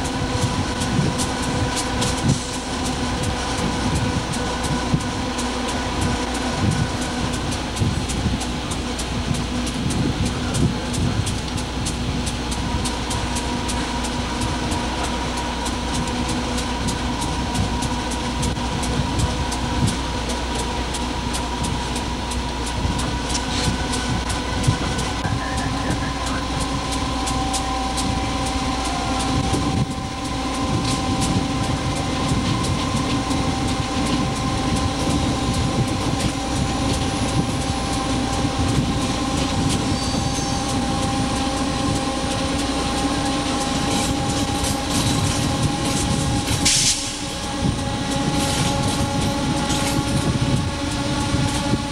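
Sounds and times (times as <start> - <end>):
locomotive cab rumble with humming: 0.0 - 51.9
wheels clicking on track: 0.0 - 51.9.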